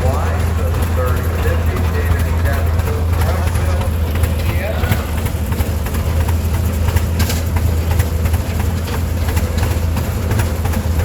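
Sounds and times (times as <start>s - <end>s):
sharp ticks: 0.0s - 11.0s
tractor engine running: 0.0s - 11.0s.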